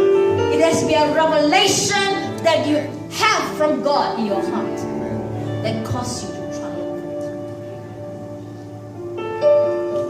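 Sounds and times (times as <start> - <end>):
soft held music chords: 0.0 - 10.0.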